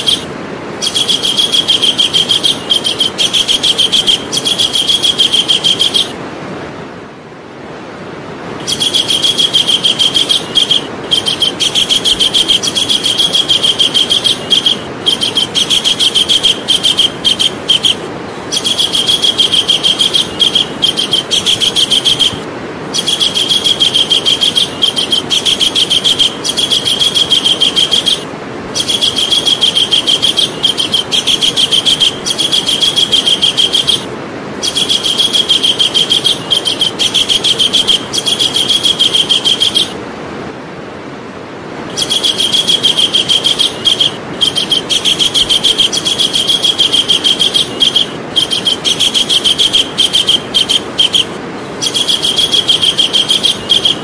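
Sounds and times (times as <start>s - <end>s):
kingfisher rattling call: 0.0s - 6.2s, 8.6s - 40.0s, 41.9s - 54.0s
background hiss: 0.0s - 54.0s.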